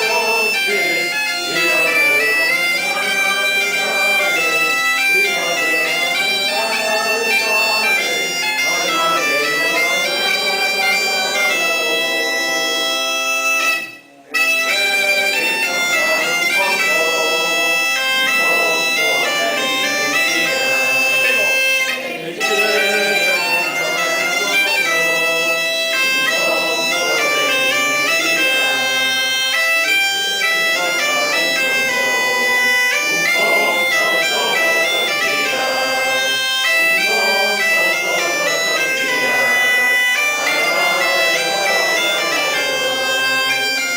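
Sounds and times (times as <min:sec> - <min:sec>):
bagpipe playing lively tune: 0:00.0 - 0:43.9.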